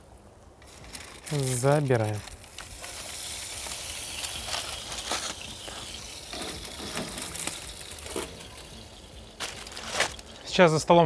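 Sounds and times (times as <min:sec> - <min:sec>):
steady high hiss: 0:00.0 - 0:11.0
foil rustling: 0:00.5 - 0:10.8.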